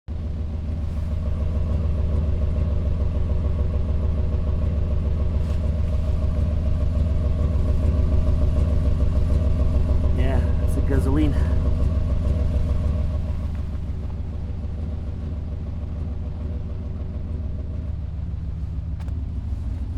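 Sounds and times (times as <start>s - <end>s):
car engine idling roughly: 0.1s - 19.9s.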